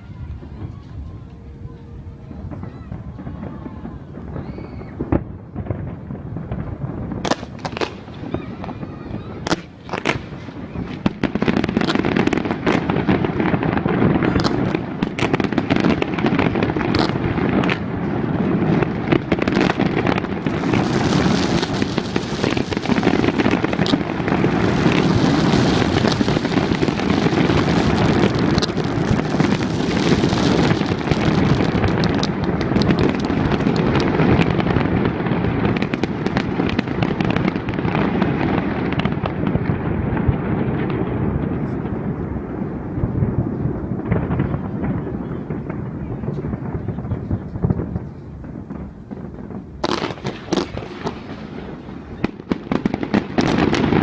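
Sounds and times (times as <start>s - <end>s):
fireworks bangs and booms: 0.0s - 54.0s
fireworks crackling: 0.0s - 54.0s.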